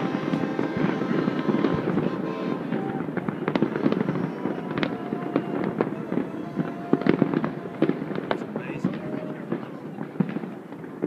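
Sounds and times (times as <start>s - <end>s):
distant fireworks bangs and crackles: 0.0s - 11.0s.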